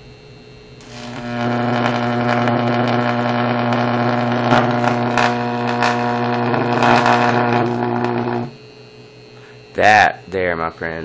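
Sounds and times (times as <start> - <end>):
electric arc buzzing and crackling: 0.7 - 10.6.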